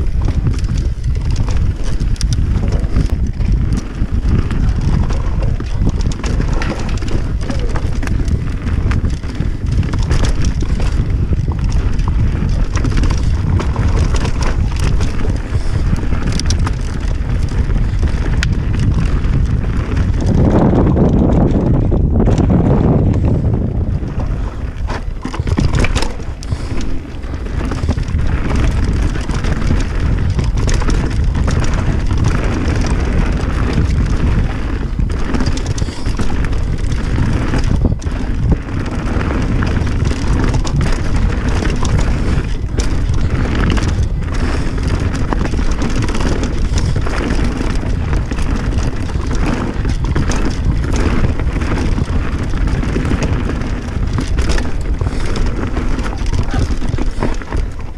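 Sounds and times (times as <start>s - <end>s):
bike knocks and clatters: 0.0s - 57.9s
bike tyre rumble: 0.0s - 57.9s
wind buffeting microphone: 0.0s - 57.9s.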